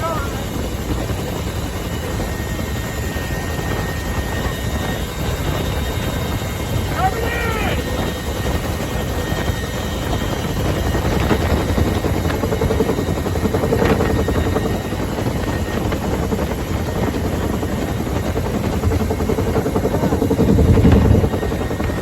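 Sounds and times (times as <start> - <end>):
helicopter rotor and engine pulsing: 0.0 - 22.0.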